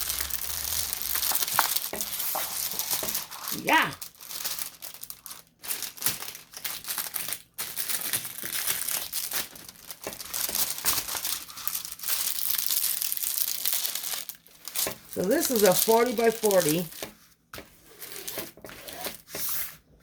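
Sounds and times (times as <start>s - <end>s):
plastic packaging crinkling: 0.0s - 17.2s.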